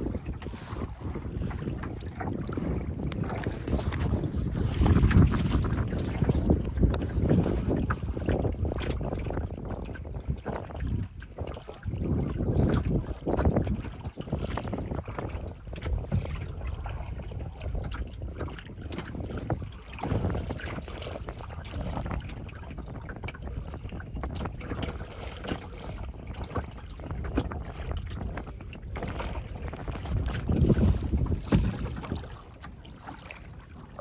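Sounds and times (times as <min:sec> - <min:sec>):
water rushing past boat: 0:00.0 - 0:34.0
wind buffeting microphone: 0:00.0 - 0:34.0.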